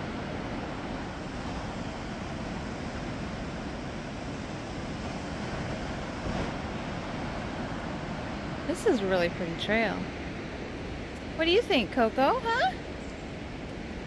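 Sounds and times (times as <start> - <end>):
ocean surf breaking on rocks: 0.0 - 11.4.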